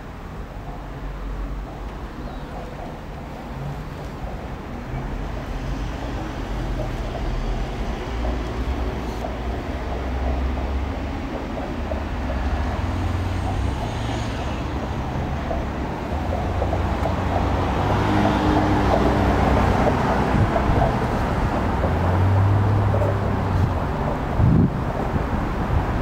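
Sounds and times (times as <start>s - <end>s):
car engines passing: 0.0s - 26.0s.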